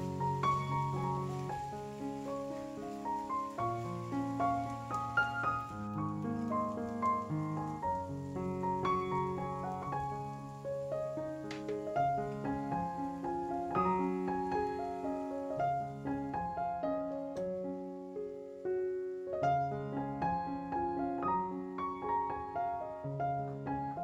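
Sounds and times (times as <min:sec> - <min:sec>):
piano melody: 0:00.0 - 0:24.0.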